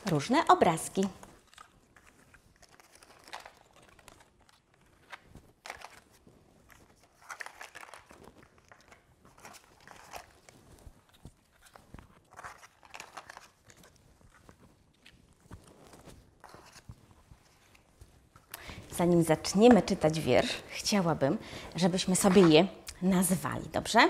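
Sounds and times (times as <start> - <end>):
rustling of picture cut-outs: 1.1 - 22.8.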